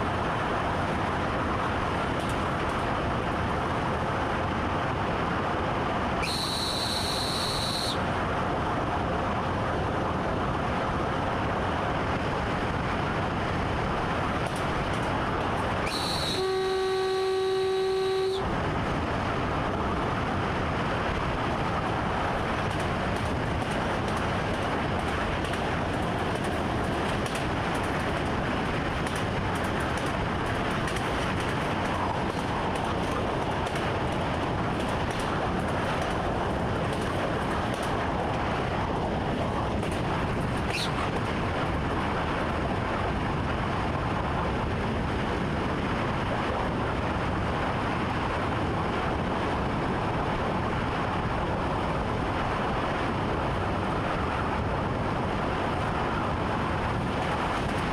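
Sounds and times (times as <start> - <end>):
train rolling rumble: 0.0 - 57.9.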